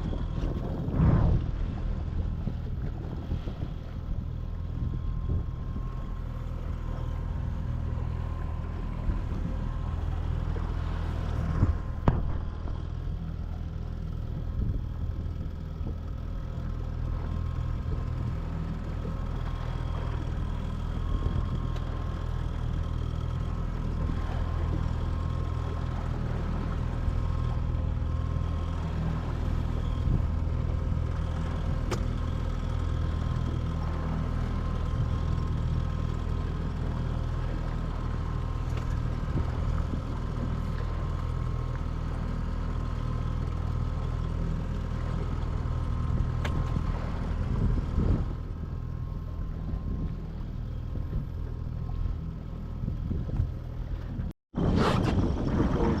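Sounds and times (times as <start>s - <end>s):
boat motor running: 0.0s - 56.0s
wind and water noise: 0.0s - 56.0s.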